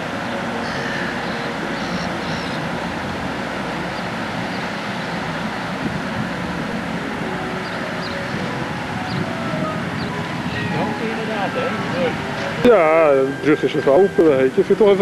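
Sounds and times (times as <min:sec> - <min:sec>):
vehicle rumble and hiss: 0:00.0 - 0:15.0.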